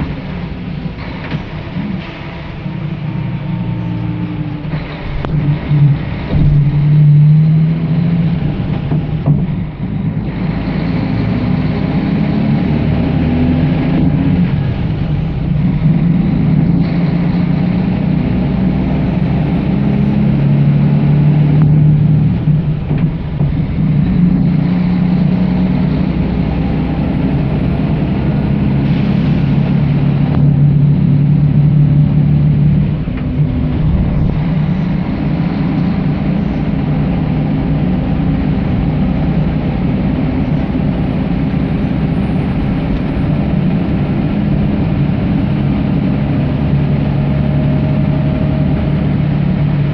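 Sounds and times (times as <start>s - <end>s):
diesel coach engine running loudly: 0.0s - 49.9s.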